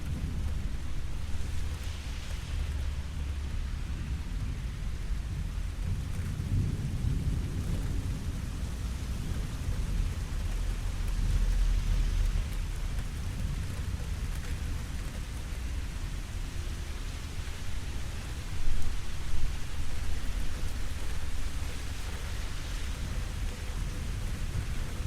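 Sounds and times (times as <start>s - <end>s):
rainfall: 0.0s - 25.0s.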